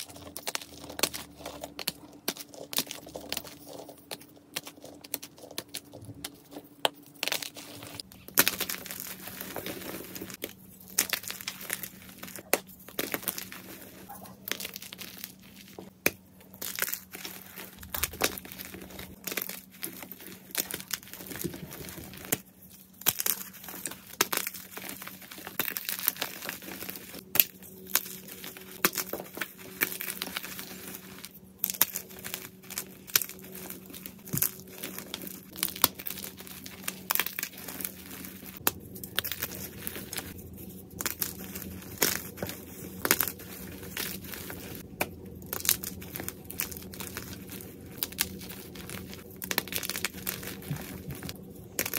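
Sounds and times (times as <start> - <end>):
chalk crunching and crackling: 0.0 - 51.9.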